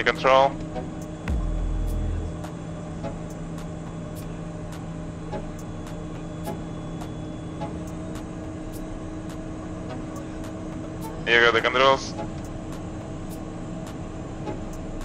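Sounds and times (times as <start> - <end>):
constant tones: 0.0 - 15.0
jet engines humming: 0.0 - 15.0.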